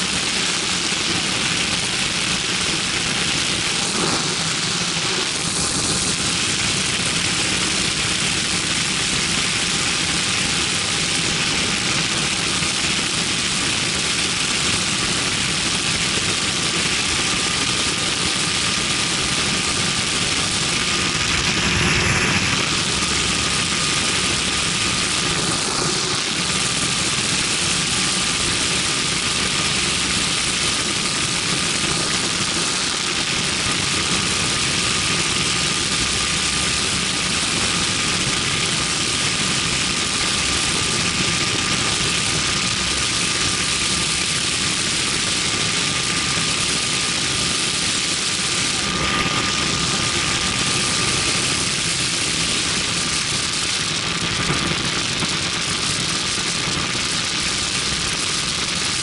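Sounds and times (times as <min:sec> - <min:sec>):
light aircraft engine and propeller: 0:00.0 - 0:59.0.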